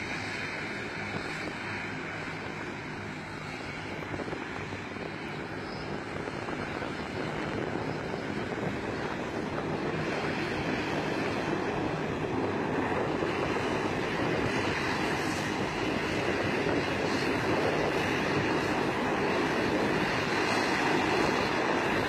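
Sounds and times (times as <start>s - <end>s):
distant turboprop engines rushing: 0.0s - 22.0s
wind on microphone: 0.0s - 22.0s.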